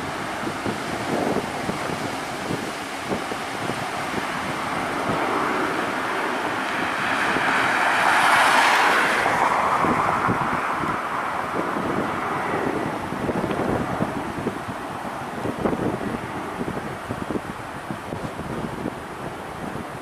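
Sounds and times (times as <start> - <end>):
jet airliner engine noise: 0.0 - 20.0
wind buffeting microphone: 0.0 - 20.0.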